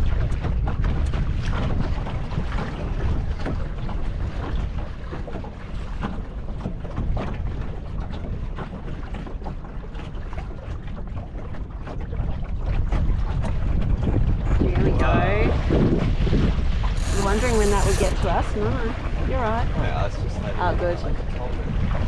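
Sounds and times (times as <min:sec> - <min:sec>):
waves slapping wooden hull: 0:00.0 - 0:22.0
wind buffeting microphone: 0:00.0 - 0:22.0.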